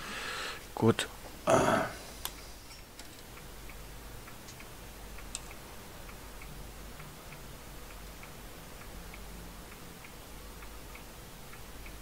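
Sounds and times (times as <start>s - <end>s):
low steady background noise: 0.0s - 12.0s
faint regular ticking: 2.1s - 12.0s.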